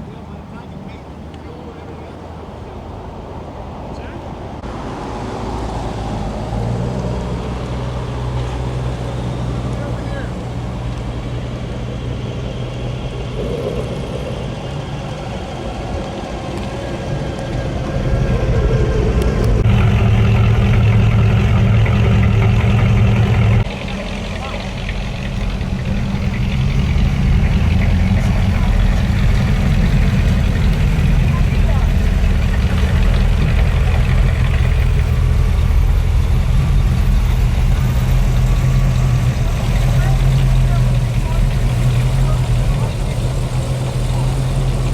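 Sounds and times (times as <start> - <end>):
car engine humming: 0.0 - 44.9.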